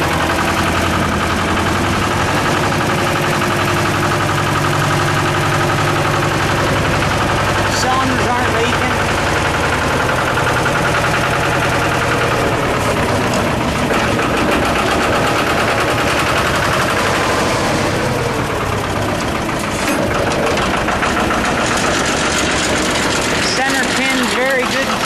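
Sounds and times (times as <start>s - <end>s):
diesel engine clattering: 0.0s - 25.0s.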